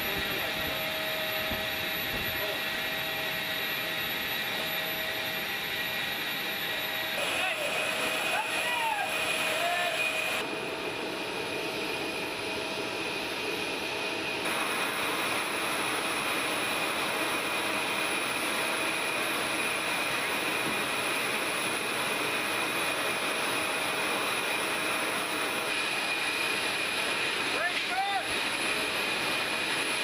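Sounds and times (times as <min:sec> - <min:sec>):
jet turbine running: 0:00.0 - 0:30.0.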